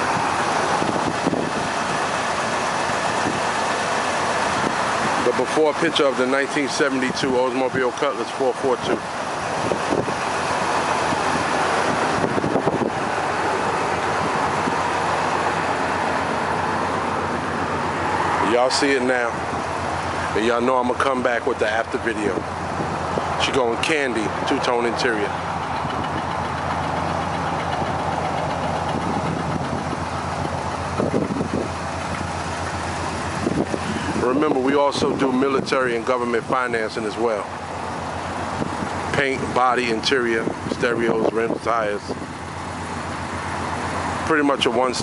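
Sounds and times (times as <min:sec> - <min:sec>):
car engine running: 0:00.0 - 0:45.0
road traffic rushing: 0:00.0 - 0:45.0.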